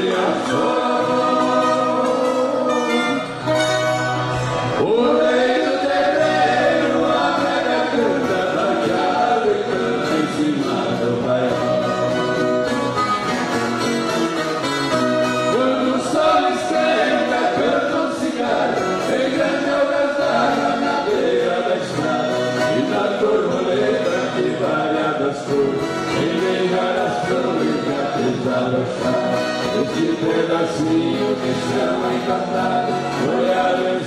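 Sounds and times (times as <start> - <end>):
voices singing together: 0.0 - 3.6, 4.3 - 12.8, 15.1 - 34.0
folk guitars strummed: 0.0 - 34.0.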